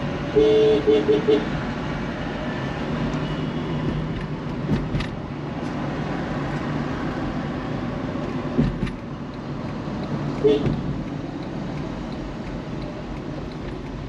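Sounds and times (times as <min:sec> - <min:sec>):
car engine and road hum: 0:00.0 - 0:14.0.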